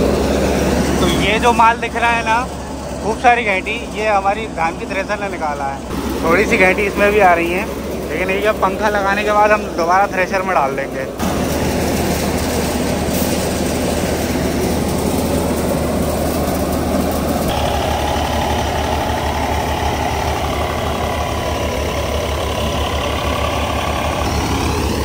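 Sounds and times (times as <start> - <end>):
thresher drum churning: 0.0 - 25.0
tractor engine under load: 0.0 - 25.0.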